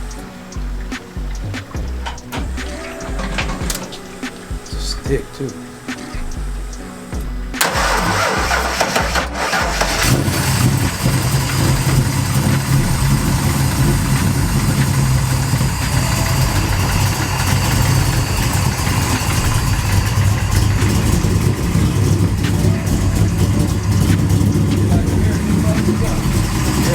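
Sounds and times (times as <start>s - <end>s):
car engine starting and idling: 0.0s - 26.9s.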